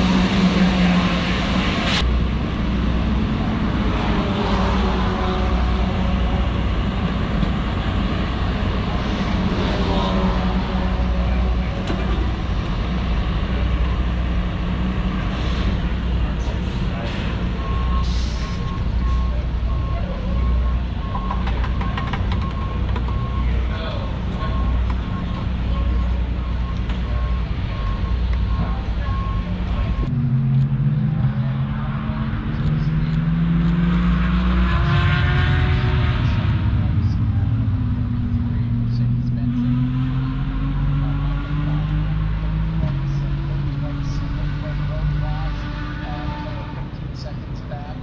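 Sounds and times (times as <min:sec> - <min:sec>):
engine droning: 0:00.0 - 0:48.0.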